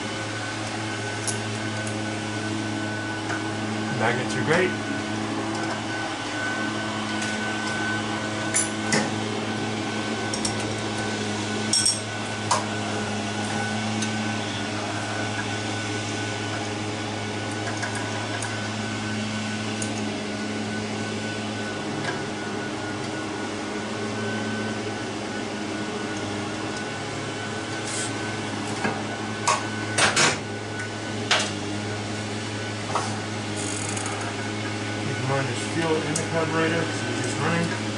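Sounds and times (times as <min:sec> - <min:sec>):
steady machine hum: 0:00.0 - 0:37.9.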